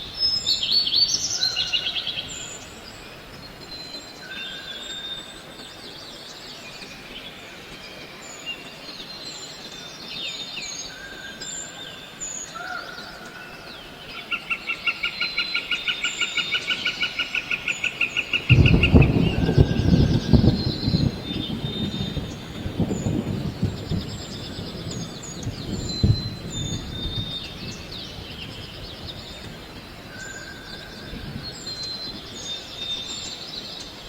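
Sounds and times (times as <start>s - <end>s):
birds chirping and whistling: 0.0s - 34.0s
steady hiss: 0.0s - 34.0s.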